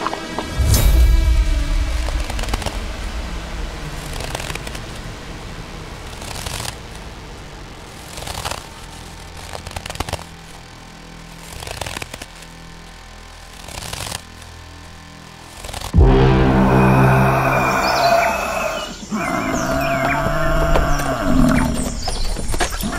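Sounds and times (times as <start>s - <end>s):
noisy background: 0.0s - 22.9s.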